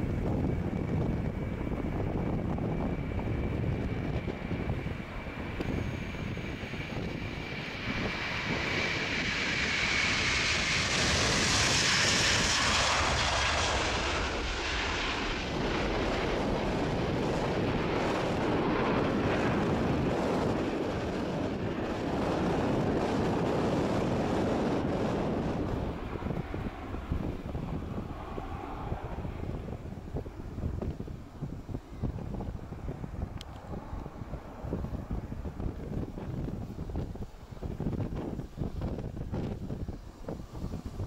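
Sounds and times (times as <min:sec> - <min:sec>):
high jet engine whine: 0:00.0 - 0:41.0
jet airliner taking off: 0:00.0 - 0:41.0.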